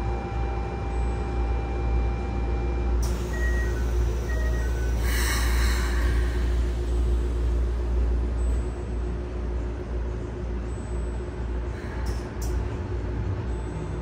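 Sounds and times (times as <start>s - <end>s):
low hum of stopped train: 0.0s - 14.0s.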